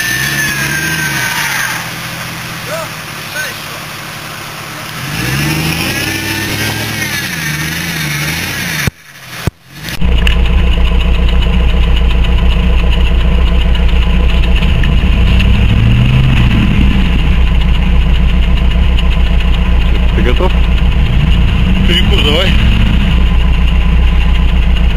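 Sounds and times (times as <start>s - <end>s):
off-road vehicle engine revving: 0.0s - 24.9s.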